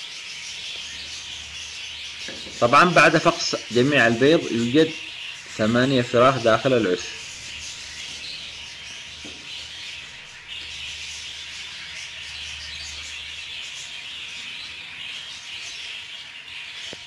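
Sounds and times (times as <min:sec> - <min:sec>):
bird chicks chattering: 0:00.0 - 0:17.0.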